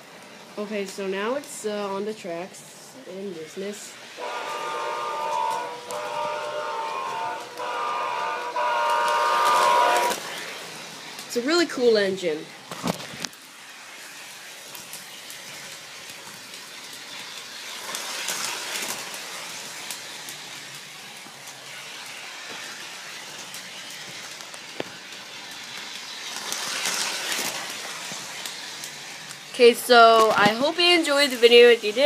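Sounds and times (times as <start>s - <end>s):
toy train rumbling on track: 0.0s - 32.0s.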